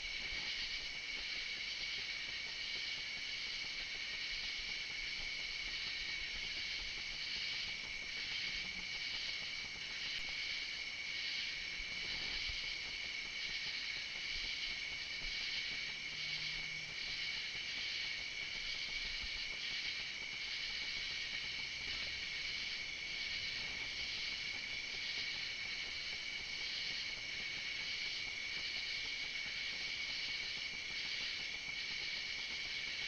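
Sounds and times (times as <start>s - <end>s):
insect trill: 0.0s - 33.0s.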